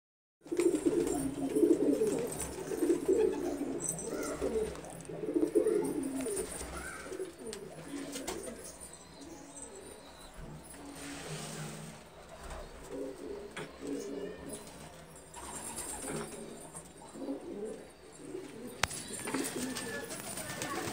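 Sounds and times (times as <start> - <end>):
pigeons cooing: 0.4 - 20.9.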